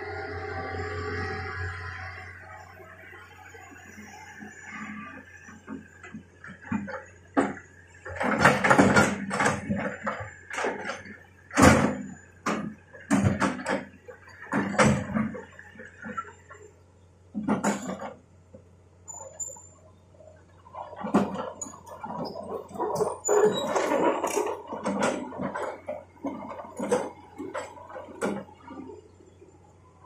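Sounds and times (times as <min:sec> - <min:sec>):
excavator humming: 0:00.0 - 0:30.0.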